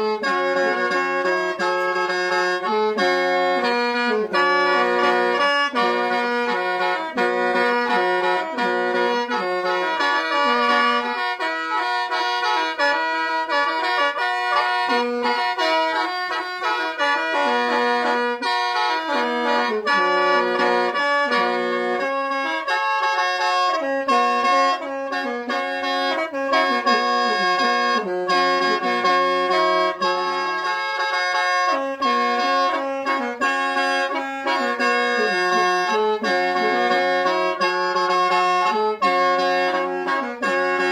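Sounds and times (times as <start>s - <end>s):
free-reed mouth organ melody: 0.0s - 40.9s.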